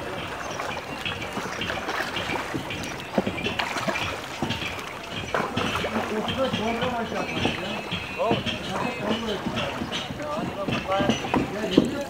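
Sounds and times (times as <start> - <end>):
water splashing around boats: 0.0 - 12.0
wooden boats knocking: 0.0 - 12.0.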